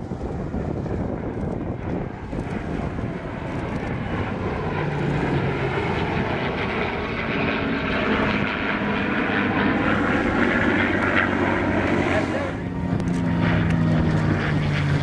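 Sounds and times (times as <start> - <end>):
aircraft engines flying past: 0.0 - 15.0.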